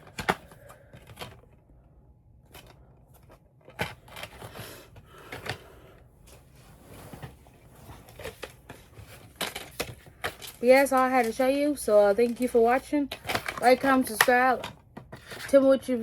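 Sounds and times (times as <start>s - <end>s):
rustling and scraping: 2.4s - 15.6s.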